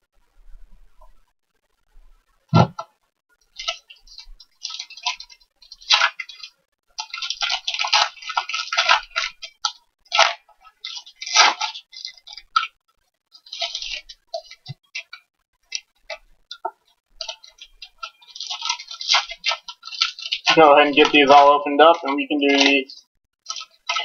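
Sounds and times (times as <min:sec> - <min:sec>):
foil wrappers crinkling: 0:03.4 - 0:24.0.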